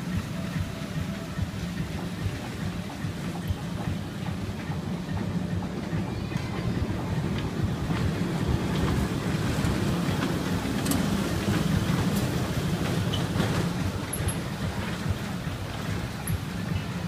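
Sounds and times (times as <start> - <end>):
ride-on train rumbling: 0.0 - 17.0.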